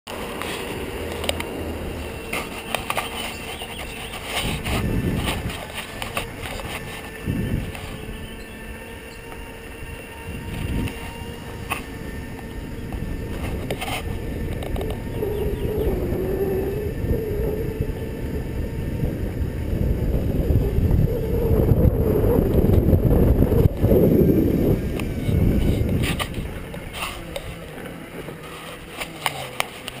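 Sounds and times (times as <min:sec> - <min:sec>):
electric motor whine: 0:00.1 - 0:30.0
wind rumble on microphone: 0:00.1 - 0:30.0.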